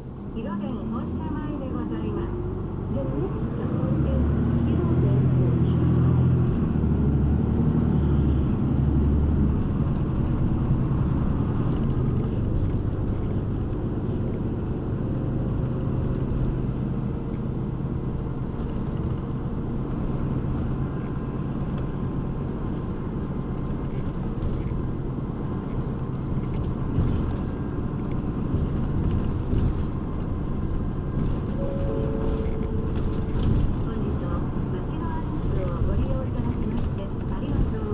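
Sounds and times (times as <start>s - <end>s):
bus engine hum: 0.0s - 37.9s
road noise: 0.0s - 37.9s.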